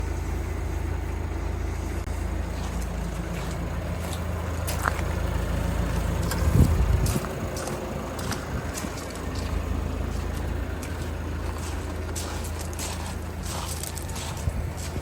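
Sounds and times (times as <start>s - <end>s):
diesel van engine running: 0.0s - 15.0s.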